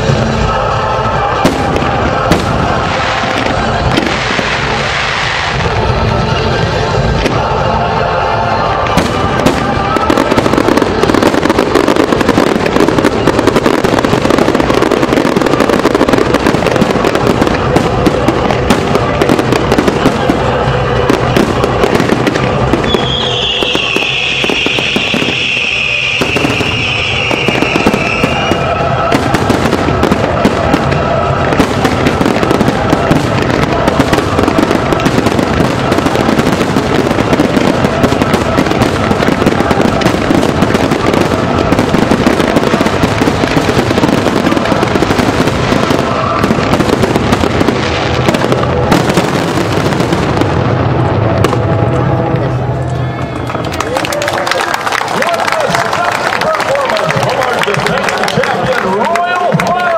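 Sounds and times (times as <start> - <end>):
fireworks bursting: 0.0 - 59.9
music: 0.0 - 59.9.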